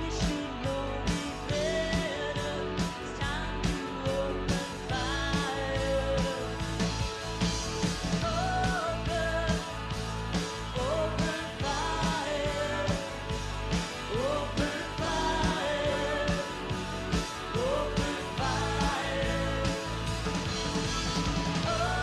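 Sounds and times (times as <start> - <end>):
country-rock instrumental music: 0.0 - 22.0
steady drum beat: 0.0 - 22.0.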